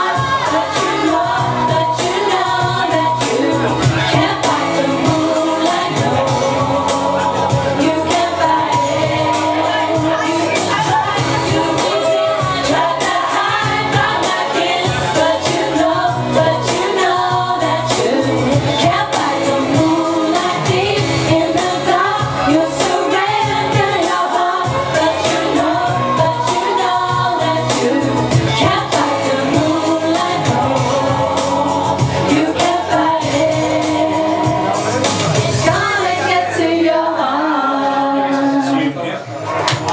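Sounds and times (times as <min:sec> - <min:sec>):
person singing karaoke: 0:00.0 - 0:39.9
pop backing track: 0:00.0 - 0:39.9.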